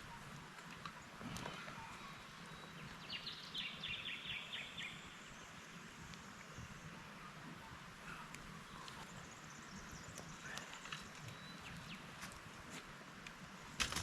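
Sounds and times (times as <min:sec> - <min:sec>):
steady faint hiss: 0:00.0 - 0:14.0.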